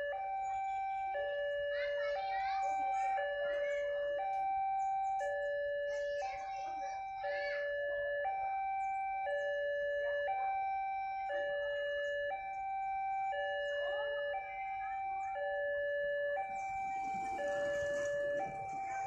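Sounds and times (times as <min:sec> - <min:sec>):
electronic two-tone siren: 0:00.0 - 0:19.0.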